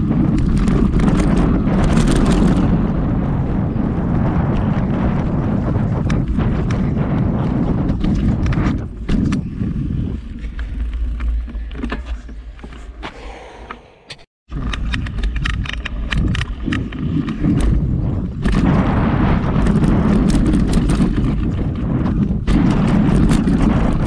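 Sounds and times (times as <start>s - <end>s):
wind on microphone: 0.0s - 12.3s, 12.9s - 24.0s
bike clicks and rattles: 0.0s - 13.0s, 14.5s - 24.0s.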